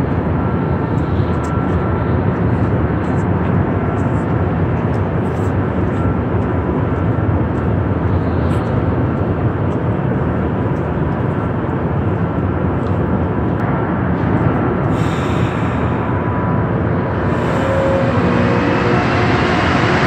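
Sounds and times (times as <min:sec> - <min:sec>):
loud rumble in metro station: 0:00.0 - 0:20.0.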